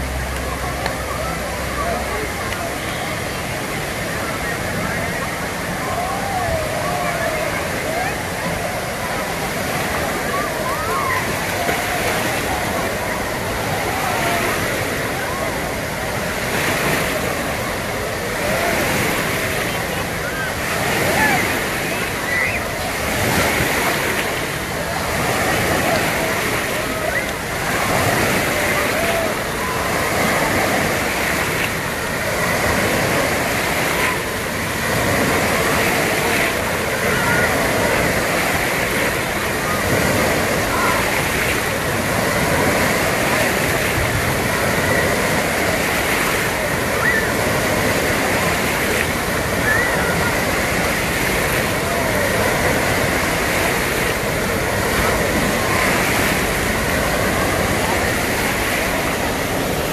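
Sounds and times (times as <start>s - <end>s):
surf washing into shallows: 0.0s - 59.9s.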